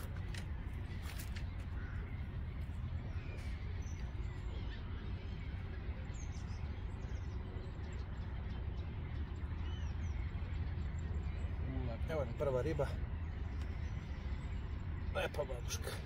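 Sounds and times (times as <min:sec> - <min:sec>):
faint bird chirps: 0:00.0 - 0:16.0
low outdoor rumble: 0:00.0 - 0:16.0.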